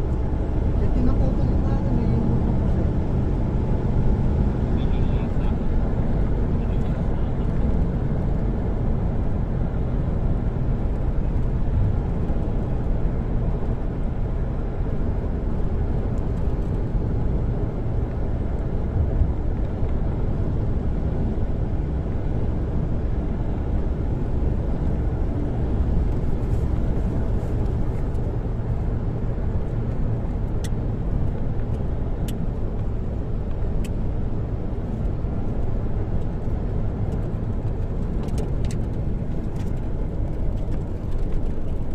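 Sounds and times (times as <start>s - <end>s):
wind: 0.0s - 41.9s.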